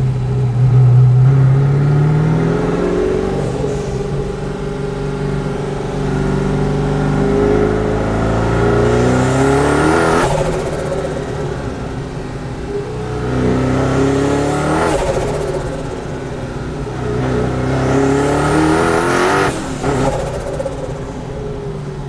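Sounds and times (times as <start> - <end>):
car engine revving hard: 0.0 - 22.0
turbo flutter: 3.0 - 22.0.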